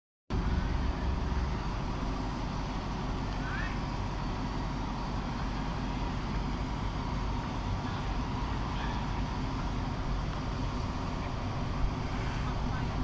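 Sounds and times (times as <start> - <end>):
diesel locomotive idling: 0.3 - 13.0.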